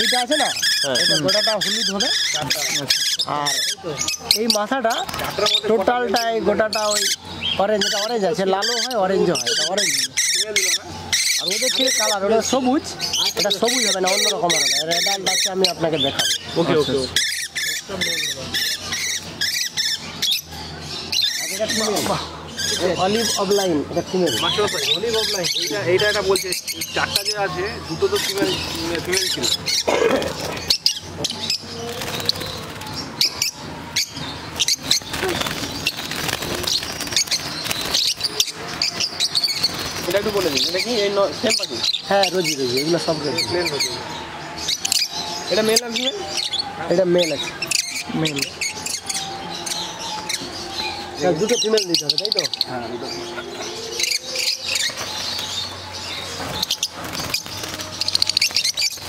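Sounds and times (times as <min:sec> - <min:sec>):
lovebirds chirping and squawking: 0:00.0 - 0:59.0.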